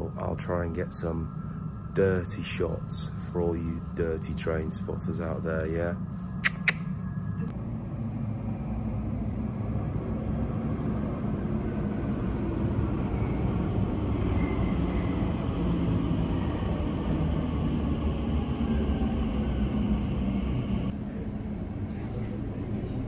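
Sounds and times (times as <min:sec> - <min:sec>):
high whine: 0:00.0 - 0:23.0
train rumbling: 0:00.0 - 0:23.0.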